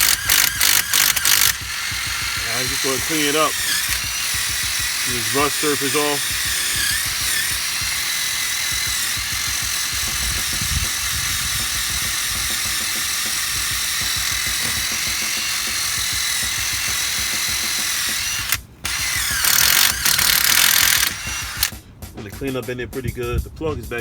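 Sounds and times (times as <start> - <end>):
electric drill whining: 0.0 - 21.8.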